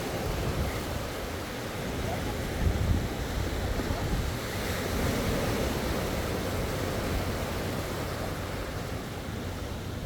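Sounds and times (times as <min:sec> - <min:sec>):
ocean waves washing ashore: 0:00.0 - 0:10.0
wind rumbling on microphone: 0:00.0 - 0:10.0.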